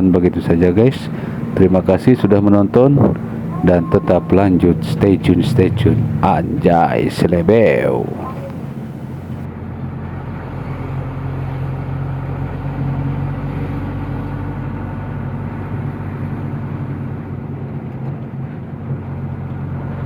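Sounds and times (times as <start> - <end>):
road noise: 0.0 - 20.0
truck engine running: 0.0 - 20.0.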